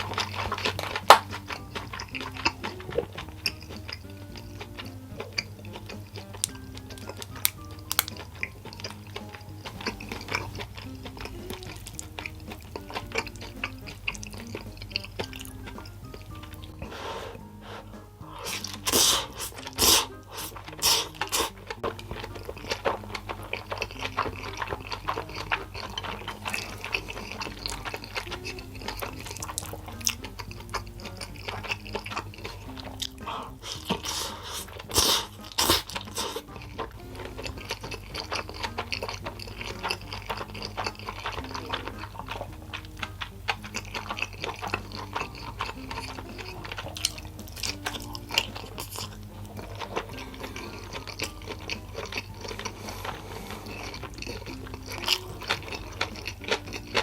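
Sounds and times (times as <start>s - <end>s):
person chewing noodles: 0.0s - 57.0s
soft background melody: 0.0s - 57.0s.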